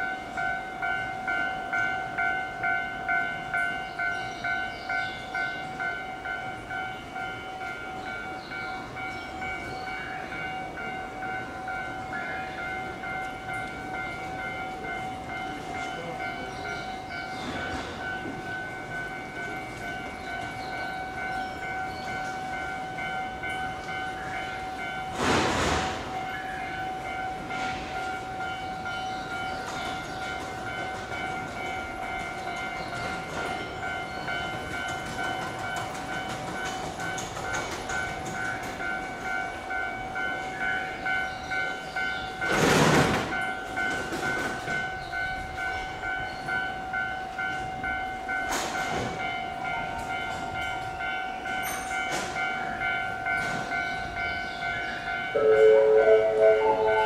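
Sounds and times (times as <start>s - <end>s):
electric trains whining: 0.0s - 57.0s.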